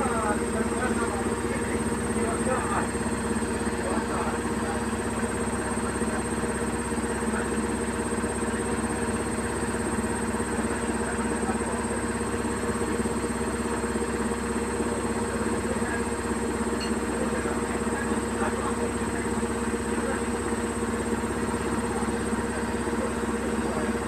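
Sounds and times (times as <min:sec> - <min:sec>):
washing machine spin cycle hum: 0:00.0 - 0:24.0.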